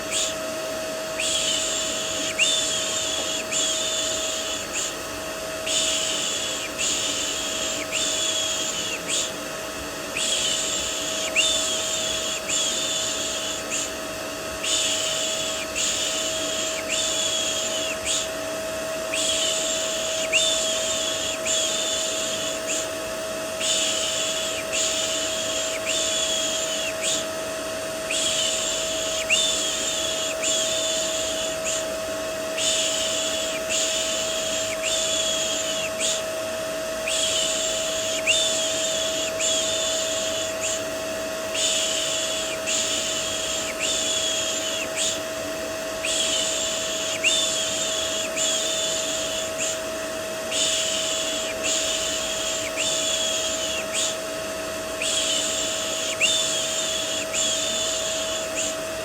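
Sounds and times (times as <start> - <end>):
vacuum cleaner motor humming: 0.0 - 59.0.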